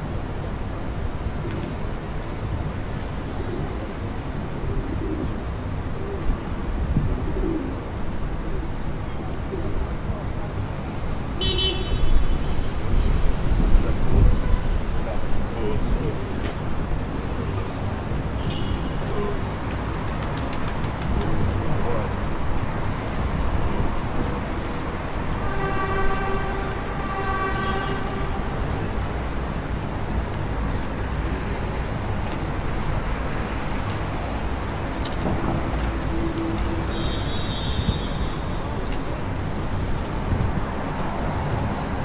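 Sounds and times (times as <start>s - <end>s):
city street traffic rumble: 0.0s - 42.0s.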